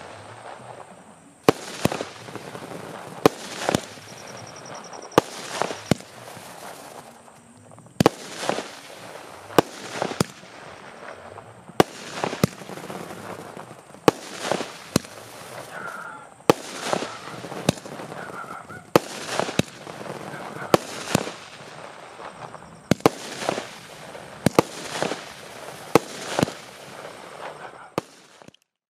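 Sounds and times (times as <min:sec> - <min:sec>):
firework shells launching and bursting: 0:00.0 - 0:28.8.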